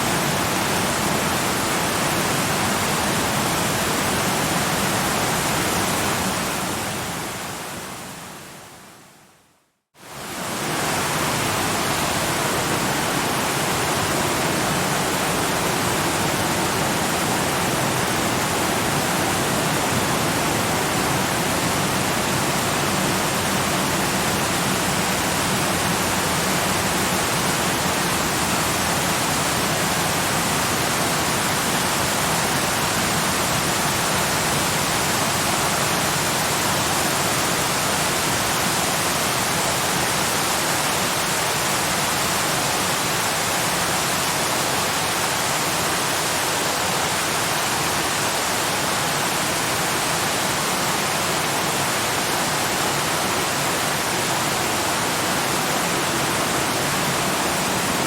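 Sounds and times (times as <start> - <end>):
waterfall: 0.0 - 58.0.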